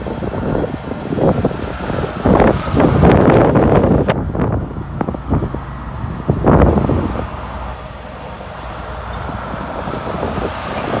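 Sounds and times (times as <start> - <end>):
distant freight train rumble: 0.0 - 11.0
highway traffic: 0.0 - 11.0
wind buffeting microphone: 0.0 - 11.0.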